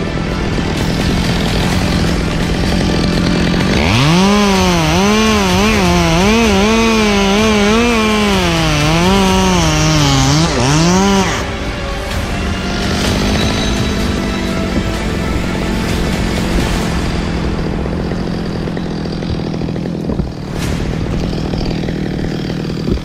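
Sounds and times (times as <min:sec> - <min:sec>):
chainsaw running: 0:00.0 - 0:23.0.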